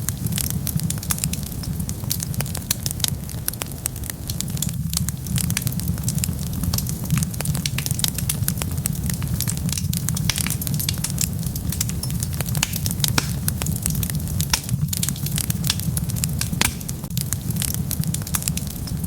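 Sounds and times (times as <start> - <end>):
fire flames rumbling: 0.0 - 19.0
wood fire crackling and popping: 0.0 - 19.0.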